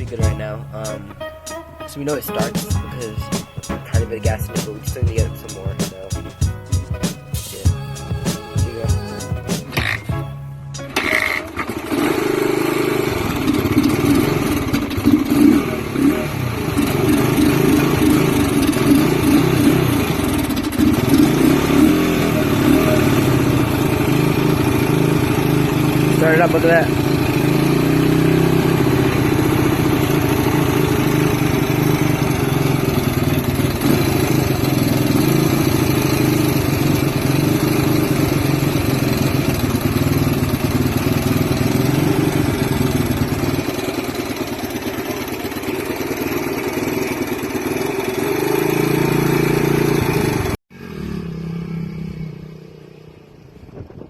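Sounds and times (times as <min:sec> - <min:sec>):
dirtbike engine running: 0:00.0 - 0:01.0, 0:02.1 - 0:10.3, 0:10.9 - 0:52.7.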